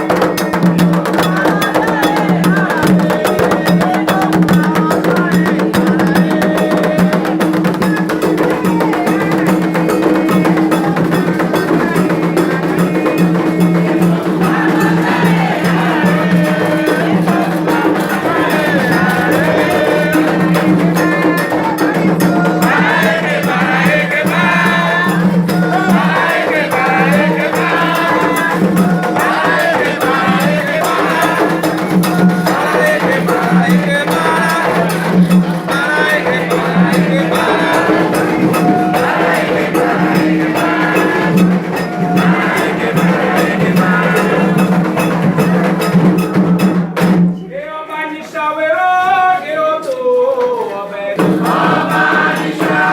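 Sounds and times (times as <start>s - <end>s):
drums and percussion: 0.0s - 52.9s
group singing: 0.0s - 52.9s.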